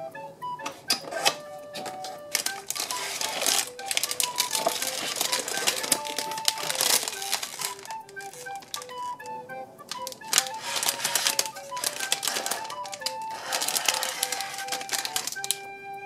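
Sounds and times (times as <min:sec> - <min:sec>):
soft background music: 0:00.0 - 0:16.0
plastic bag crinkling: 0:01.2 - 0:15.6.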